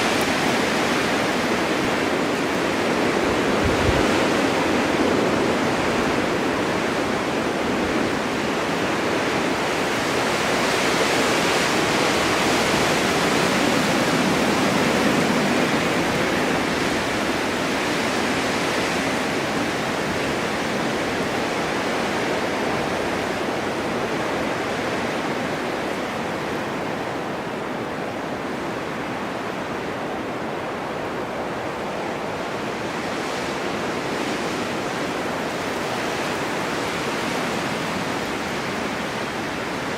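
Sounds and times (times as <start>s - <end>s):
snowstorm wind rushing: 0.0s - 39.9s.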